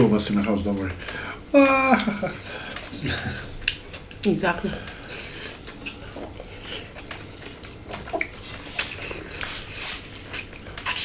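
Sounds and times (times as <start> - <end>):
chewing and lip-smacking: 2.0 - 11.0.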